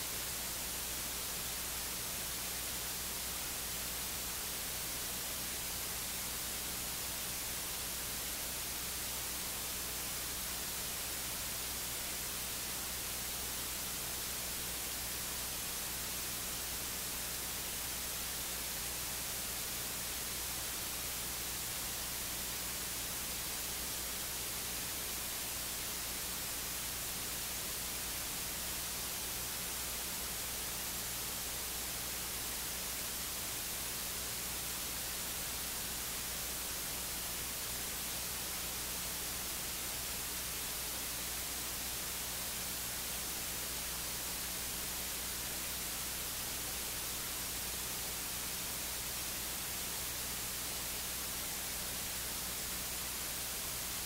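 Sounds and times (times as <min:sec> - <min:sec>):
electronic hiss: 0:00.0 - 0:54.0.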